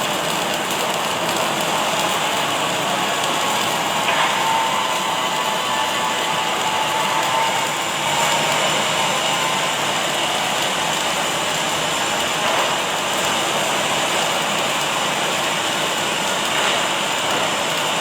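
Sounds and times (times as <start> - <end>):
welding arc hissing and crackling: 0.0 - 18.0.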